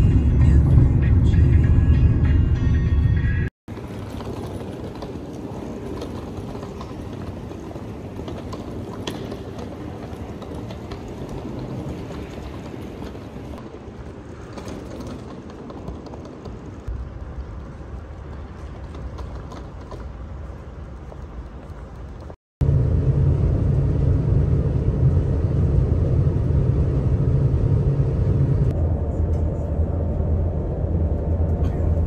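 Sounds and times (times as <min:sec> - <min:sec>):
steady background noise: 0:03.7 - 0:32.0.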